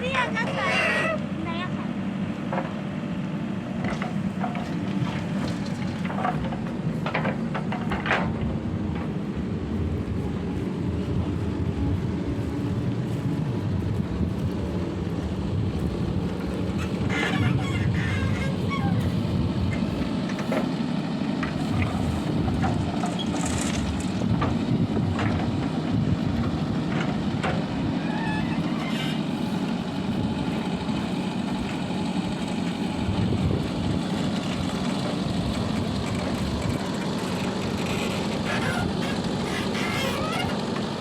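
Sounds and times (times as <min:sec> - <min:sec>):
diesel engines running: 0:00.0 - 0:41.0.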